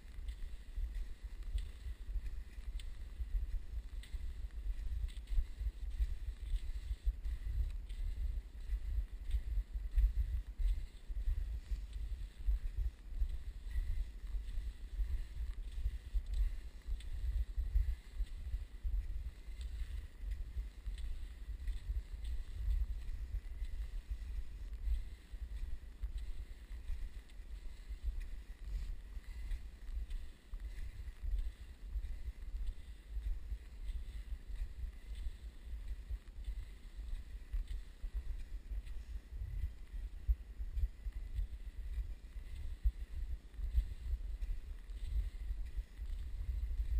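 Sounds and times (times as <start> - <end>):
faint light ticks: 0.0 - 46.9
wind buffeting microphone: 0.0 - 46.9.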